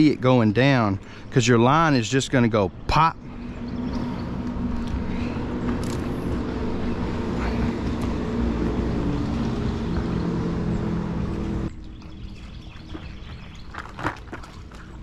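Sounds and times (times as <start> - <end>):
electric boat motor humming: 0.0 - 13.7.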